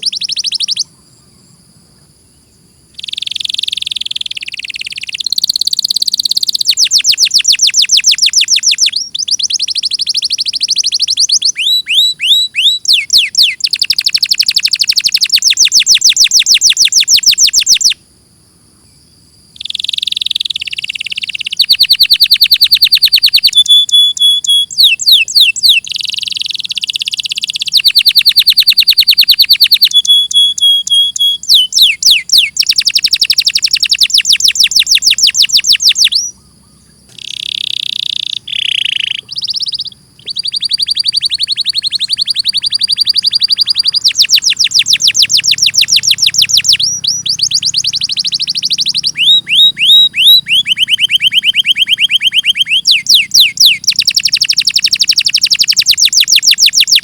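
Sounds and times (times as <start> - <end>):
canary singing trills: 0.0 - 1.3, 2.0 - 18.0, 18.8 - 57.0.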